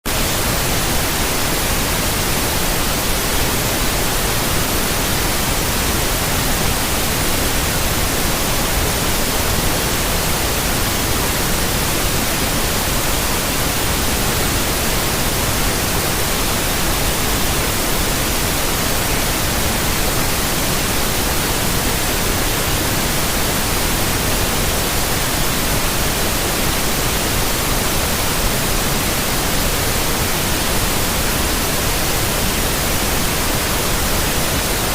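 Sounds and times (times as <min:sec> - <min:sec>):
white noise hiss: 0:00.1 - 0:34.9.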